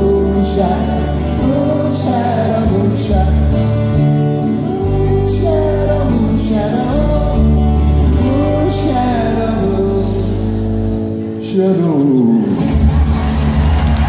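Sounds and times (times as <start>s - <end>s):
man singing: 0.0s - 12.8s
acoustic guitar strumming: 0.0s - 14.0s.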